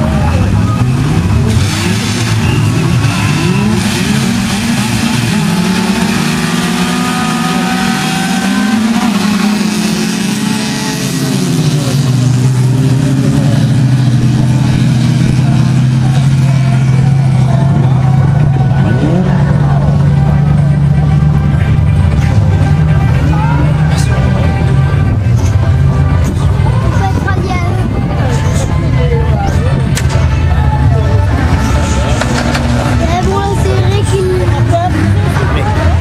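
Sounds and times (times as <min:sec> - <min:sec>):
race car engines revving: 0:00.0 - 0:36.0
steady engine drone: 0:00.0 - 0:36.0.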